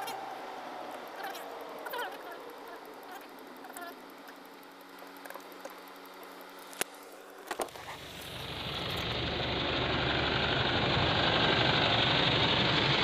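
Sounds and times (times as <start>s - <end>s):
car engine hum: 0.0s - 13.0s
wind and road noise: 0.0s - 13.0s.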